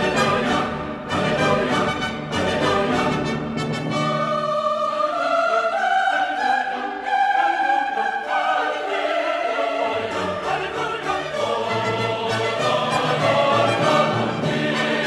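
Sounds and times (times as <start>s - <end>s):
choir singing long notes: 0.0s - 15.0s
orchestral music: 0.0s - 15.0s.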